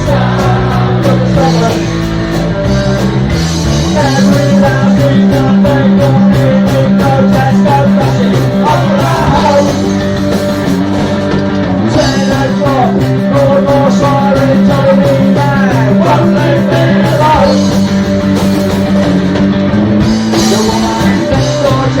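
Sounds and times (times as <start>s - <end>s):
punk rock music with singing: 0.0s - 22.0s.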